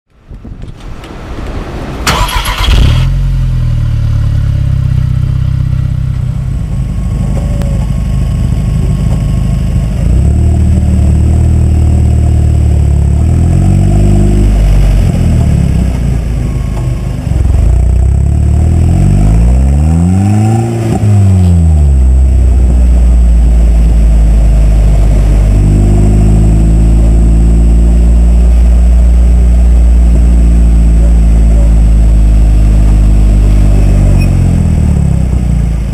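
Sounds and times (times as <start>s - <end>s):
car engine revving: 2.0s - 35.9s.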